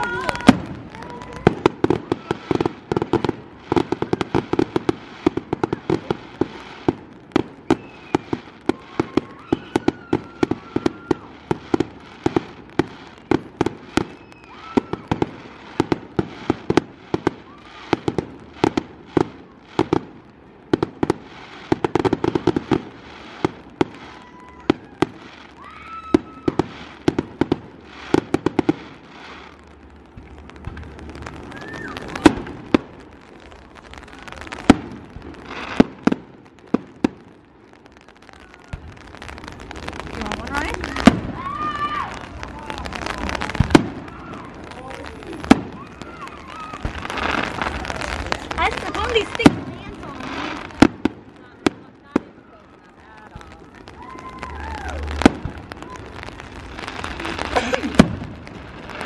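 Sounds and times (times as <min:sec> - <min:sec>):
firework whistles: 0:00.0 - 0:19.9, 0:21.0 - 0:32.8, 0:38.2 - 0:51.0, 0:52.4 - 0:59.0
fireworks bursting with sharp bangs: 0:00.0 - 0:59.0.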